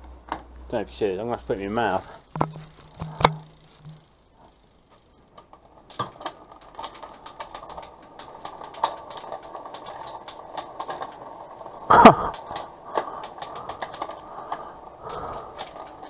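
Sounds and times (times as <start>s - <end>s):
bicycle gear clicks: 0.0s - 16.0s
bicycle chain running over sprockets: 0.7s - 16.0s.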